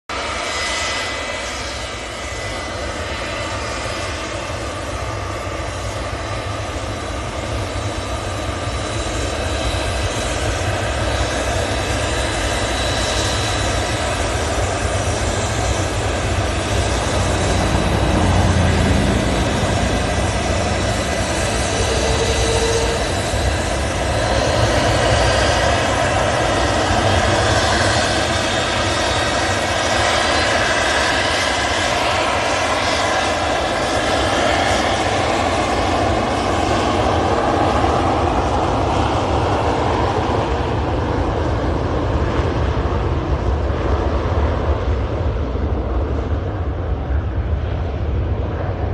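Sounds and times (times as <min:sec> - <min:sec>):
jet engines roaring: 0:00.1 - 0:48.9.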